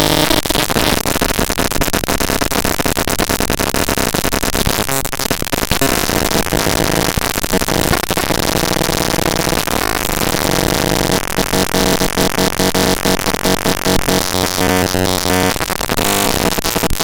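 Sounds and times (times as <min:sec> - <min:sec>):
harsh static noise with buzzing tones: 0:00.0 - 0:17.0.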